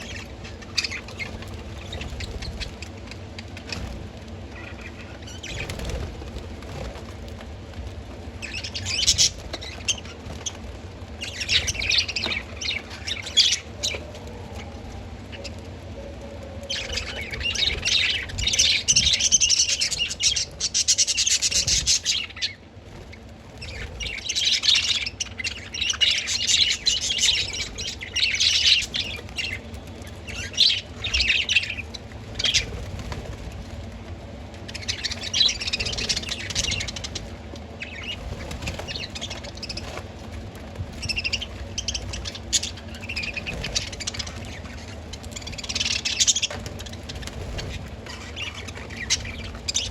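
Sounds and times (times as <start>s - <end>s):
budgerigars chattering and warbling: 0.0s - 6.9s, 8.3s - 14.0s, 16.7s - 33.5s, 34.6s - 40.2s, 40.8s - 49.9s.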